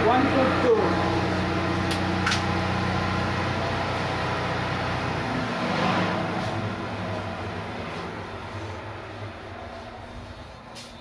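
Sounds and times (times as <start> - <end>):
diesel engines humming: 0.0 - 11.0.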